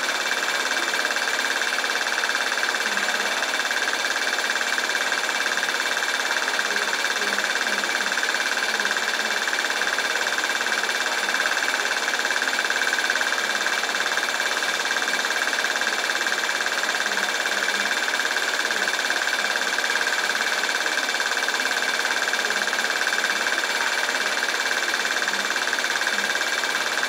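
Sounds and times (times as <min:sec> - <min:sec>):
film projector whirring: 0:00.0 - 0:27.0.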